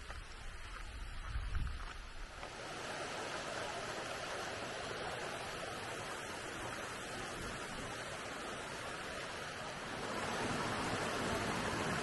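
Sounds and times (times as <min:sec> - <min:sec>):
stream rushing over rocks: 0:02.1 - 0:12.0.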